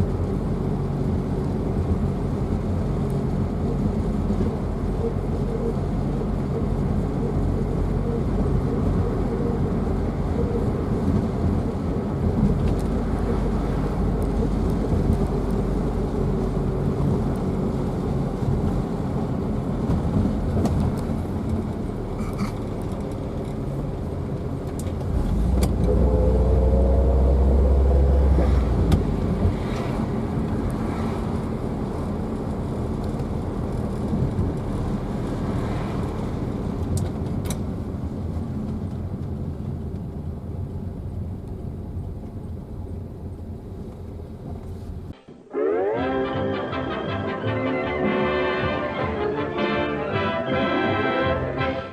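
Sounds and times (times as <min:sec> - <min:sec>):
car engine and road noise: 0:00.0 - 0:51.9
low rumble with rising engine note: 0:00.0 - 0:51.9.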